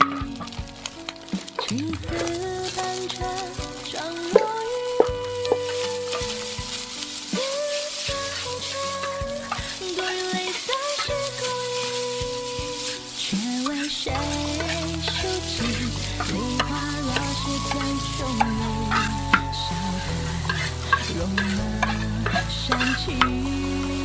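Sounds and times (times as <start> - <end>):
background music: 0.0 - 24.0
frying sizzle: 0.0 - 24.0
spatula scraping wok: 0.0 - 24.0
spatula clanking on wok: 1.5 - 23.4.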